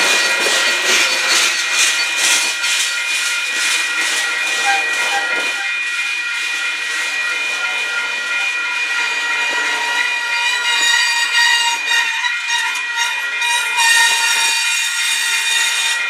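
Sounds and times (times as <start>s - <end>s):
freight train passing: 0.0s - 16.0s
metallic wheel squeal on rails: 0.0s - 16.0s.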